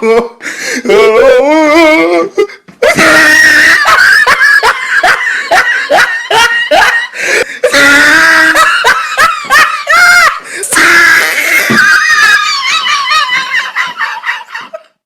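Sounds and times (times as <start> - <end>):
high-pitched human laughter: 2.8 - 15.0.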